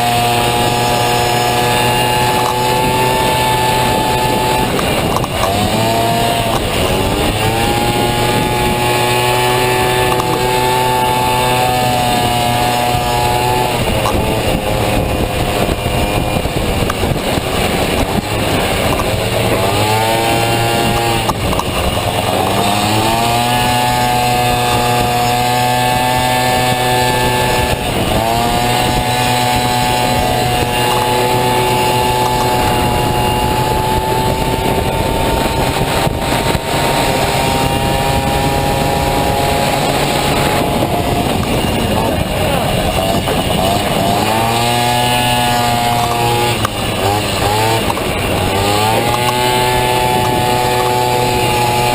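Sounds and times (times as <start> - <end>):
scooter engine revving high: 0.0 - 51.9.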